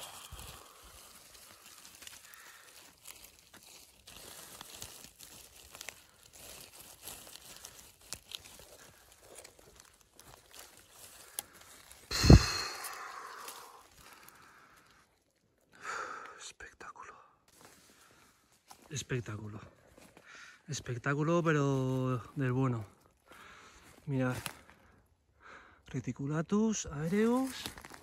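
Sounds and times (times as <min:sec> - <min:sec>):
dry leaves and twigs crackling: 0:00.0 - 0:16.4, 0:17.1 - 0:25.8, 0:26.6 - 0:28.0
footsteps crunching on forest floor: 0:00.0 - 0:16.4, 0:17.5 - 0:25.7, 0:26.9 - 0:28.0.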